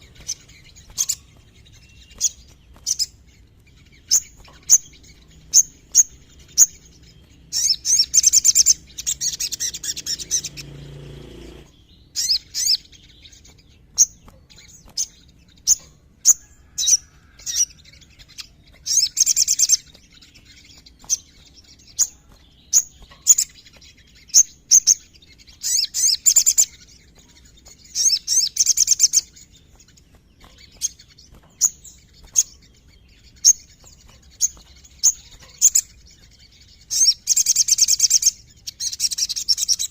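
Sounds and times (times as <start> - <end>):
sunbird singing high chips and trills: 0.0 - 39.9.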